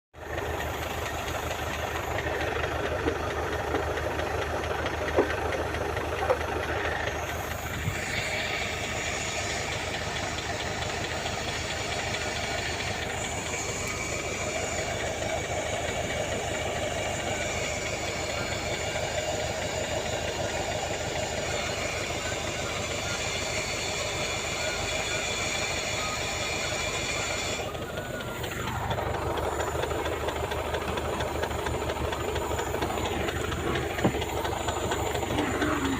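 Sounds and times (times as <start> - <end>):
engine running steadily: 0.2 - 35.9.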